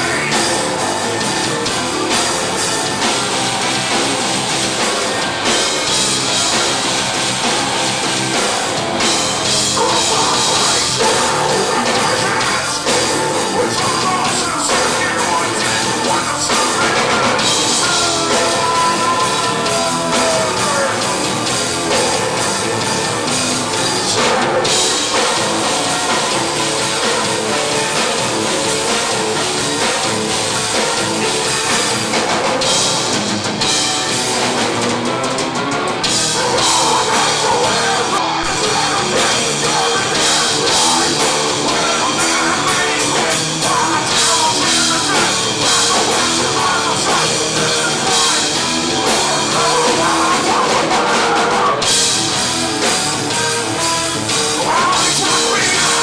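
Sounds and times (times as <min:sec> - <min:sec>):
metal band playing loud: 0:00.0 - 0:56.0.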